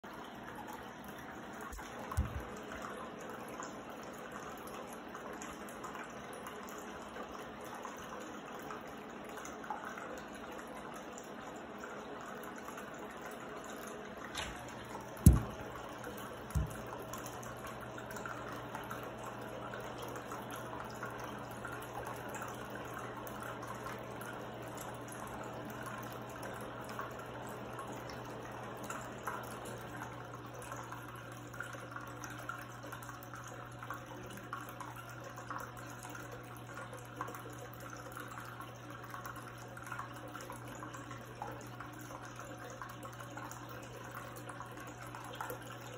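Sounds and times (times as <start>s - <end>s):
fountain water trickling: 0.1s - 45.9s.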